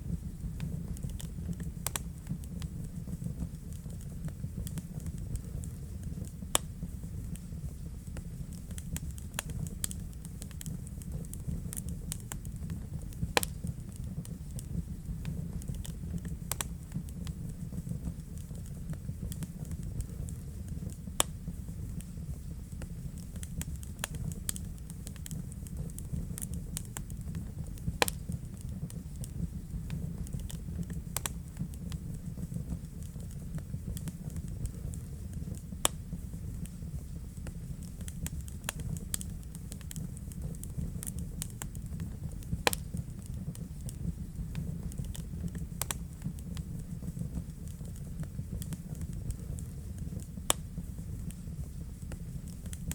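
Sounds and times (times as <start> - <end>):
loud fire pops: 0.0 - 52.9
wood fire crackling: 0.0 - 52.9.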